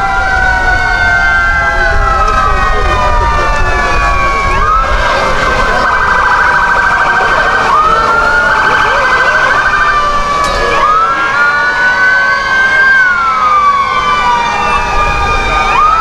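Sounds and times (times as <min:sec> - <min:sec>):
fire truck sirens wailing: 0:00.0 - 0:16.0
siren yelp: 0:00.0 - 0:16.0.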